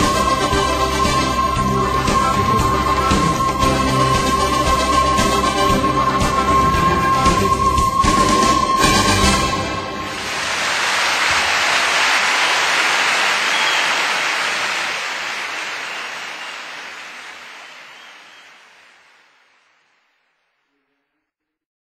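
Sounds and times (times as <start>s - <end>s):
rushing noise: 0.0s - 19.9s.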